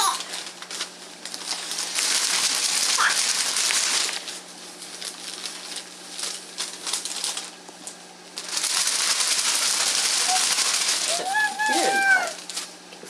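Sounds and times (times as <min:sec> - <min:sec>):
newspaper crinkling: 0:00.0 - 0:07.7, 0:08.3 - 0:12.8.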